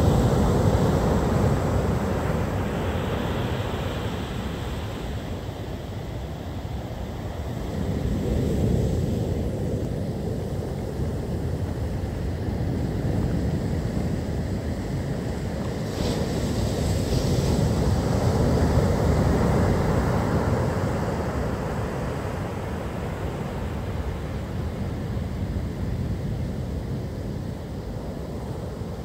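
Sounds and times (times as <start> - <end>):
surf rumbling: 0.0 - 29.0.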